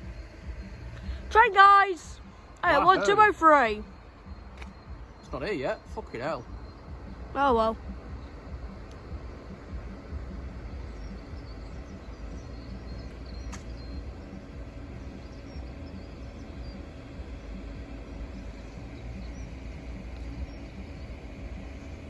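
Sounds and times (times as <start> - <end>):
low outdoor rumble: 0.0 - 22.0
faint bird chirps: 2.2 - 22.0.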